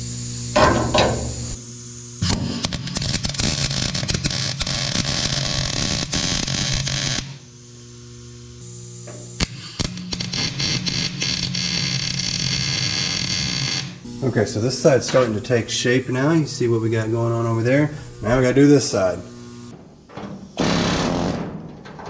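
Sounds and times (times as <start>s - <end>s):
welding arc crackling: 0.0s - 22.0s.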